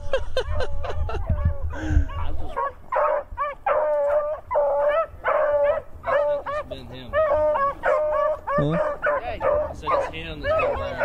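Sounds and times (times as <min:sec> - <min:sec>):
beagles baying: 0:00.0 - 0:11.0.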